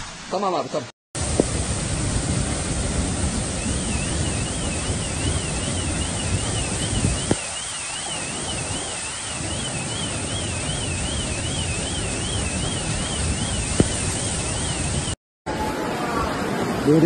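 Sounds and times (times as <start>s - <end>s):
floodwater rushing: 1.2s - 17.0s.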